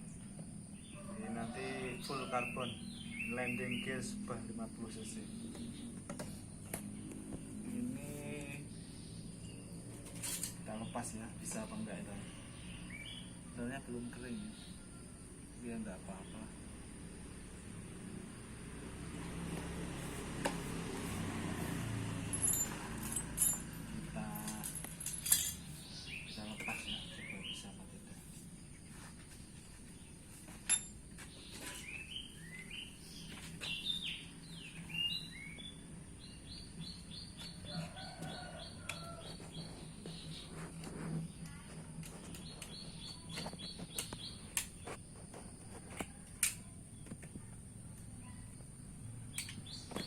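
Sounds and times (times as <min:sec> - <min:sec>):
small birds chirping: 0:00.0 - 0:21.9, 0:23.7 - 0:50.0.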